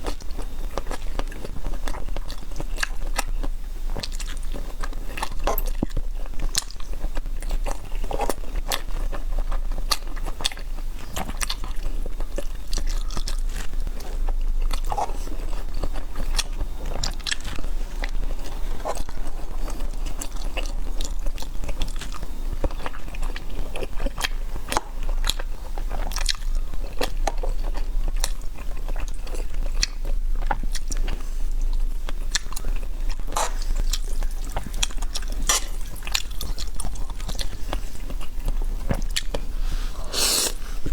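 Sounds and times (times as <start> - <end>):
person chewing crunchy food: 0.0 - 40.9
steady low hum: 0.0 - 40.9.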